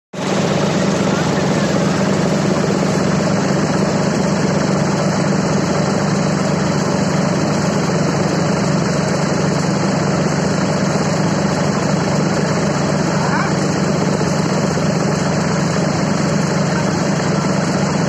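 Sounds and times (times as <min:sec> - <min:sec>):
fan blowing rush of air: 0:00.2 - 0:18.0
tractor diesel engine running: 0:00.2 - 0:18.0.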